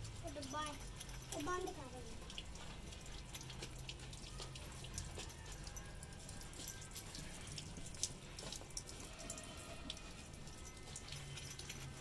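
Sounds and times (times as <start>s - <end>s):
water splashing and dripping: 0.0s - 12.0s.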